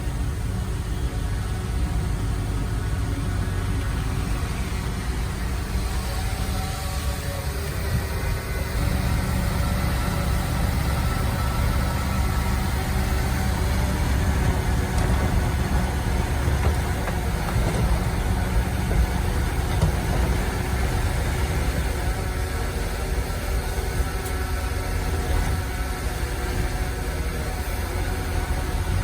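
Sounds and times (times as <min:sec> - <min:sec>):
heavy machinery engine droning: 0:00.0 - 0:29.0.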